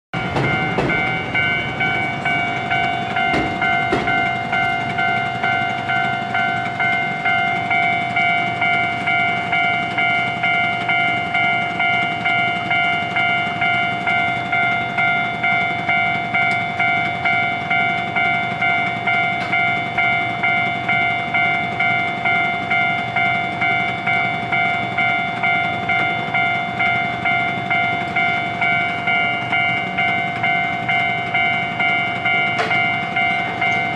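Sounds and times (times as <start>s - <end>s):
level crossing alarm ringing: 0.2s - 33.9s.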